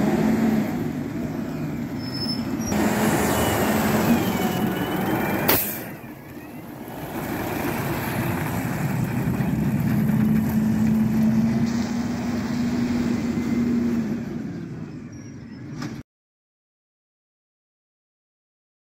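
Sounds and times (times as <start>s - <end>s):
garbage truck driving away: 0.0s - 16.0s.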